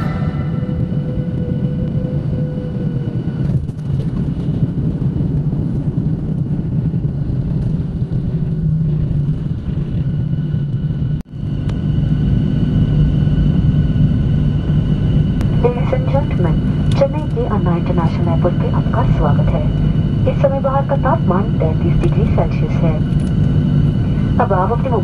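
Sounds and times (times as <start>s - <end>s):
jet cabin rumble: 0.0s - 25.0s.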